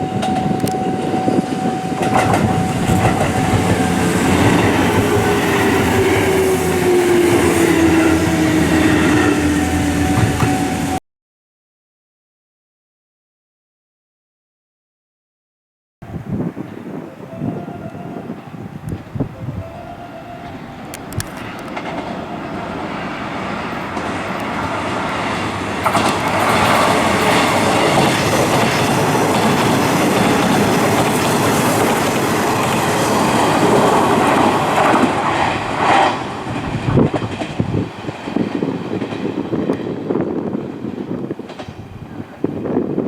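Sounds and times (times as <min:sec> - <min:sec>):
electric train passing: 0:00.0 - 0:11.0, 0:16.1 - 0:43.0.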